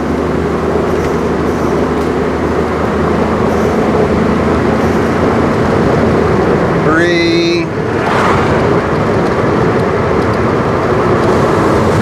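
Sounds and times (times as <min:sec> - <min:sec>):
car engine hum from cabin: 0:00.0 - 0:12.0
road and tyre noise: 0:00.0 - 0:12.0.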